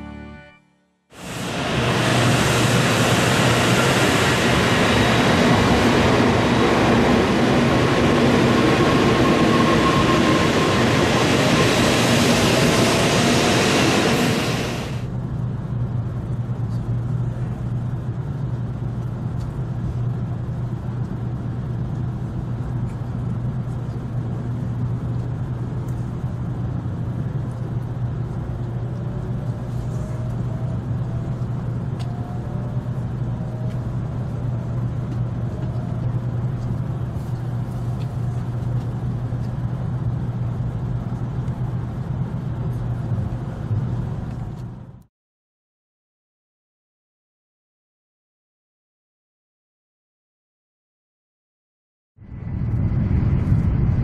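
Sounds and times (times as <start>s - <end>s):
train low rumble: 0.0s - 45.1s, 52.2s - 54.0s.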